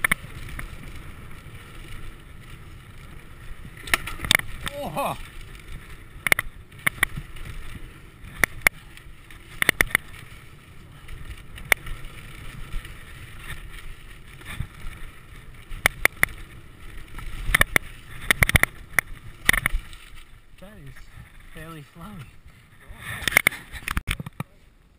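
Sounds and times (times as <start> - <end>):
bike clacking and rattling: 0.0 - 22.5
tyres rumbling on dirt: 0.0 - 24.1
wind: 0.0 - 24.9.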